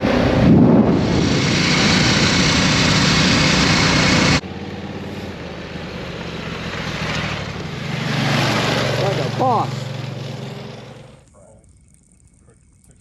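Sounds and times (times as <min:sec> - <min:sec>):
loud rushing noise: 0:00.0 - 0:11.1
engine idling: 0:00.9 - 0:11.8.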